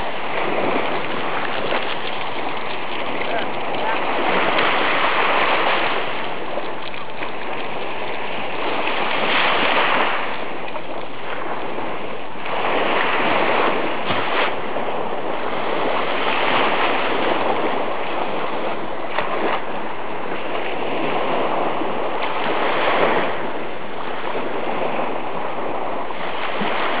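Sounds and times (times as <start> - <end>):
sea surf washing on beach: 0.0 - 27.0.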